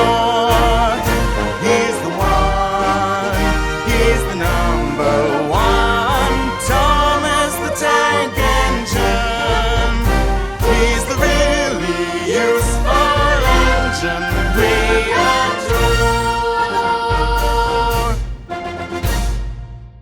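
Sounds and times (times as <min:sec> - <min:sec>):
orchestral pop music with singing: 0:00.0 - 0:19.6.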